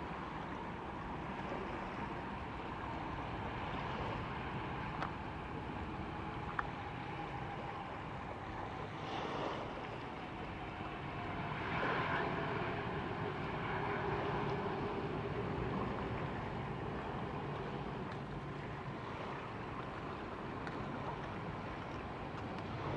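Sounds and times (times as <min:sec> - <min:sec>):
faint jet engine whine: 0:00.0 - 0:22.9.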